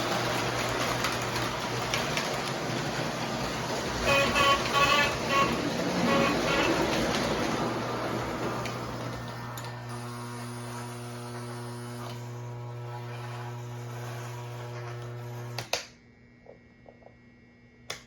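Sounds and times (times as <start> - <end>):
model train running noise: 0.0 - 15.6
model train electrical hum: 0.0 - 18.0.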